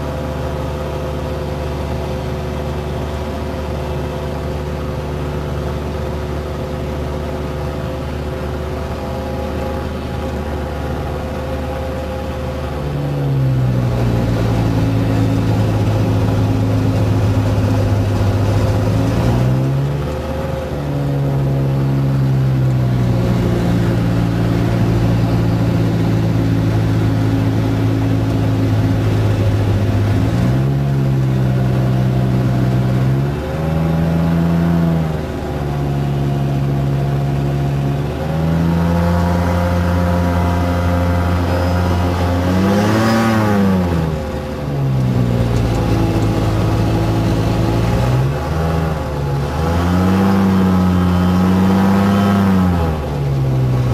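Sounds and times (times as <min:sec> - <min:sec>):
light aircraft engine and propeller droning: 0:00.0 - 0:53.9.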